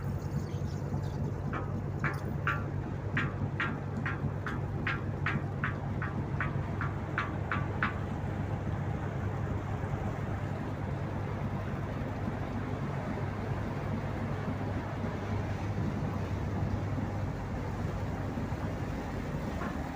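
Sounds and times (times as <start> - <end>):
diesel engine drone: 0.0 - 19.9.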